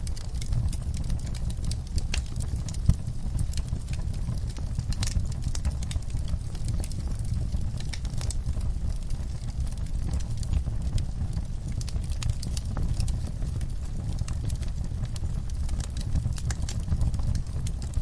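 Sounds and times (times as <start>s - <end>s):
log fire crackling and popping: 0.0s - 18.0s
low steady rumble: 0.0s - 18.0s.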